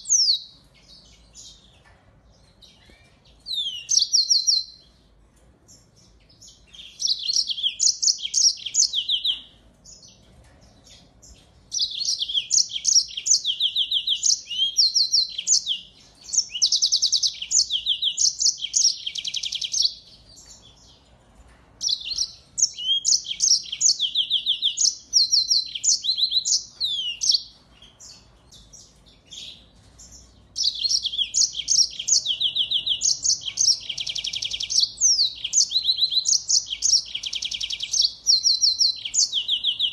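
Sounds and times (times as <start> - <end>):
finch twittering trills: 0.0 - 5.1, 5.7 - 21.1, 21.8 - 39.9.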